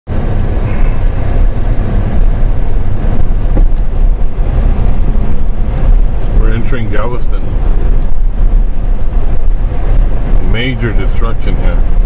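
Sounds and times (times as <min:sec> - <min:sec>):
loud low rumble: 0:00.1 - 0:12.0.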